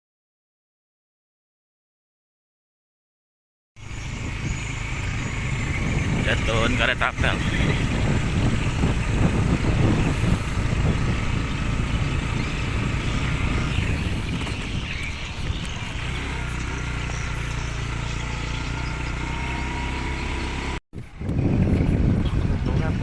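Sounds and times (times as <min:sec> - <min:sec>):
engine droning: 0:03.8 - 0:23.0.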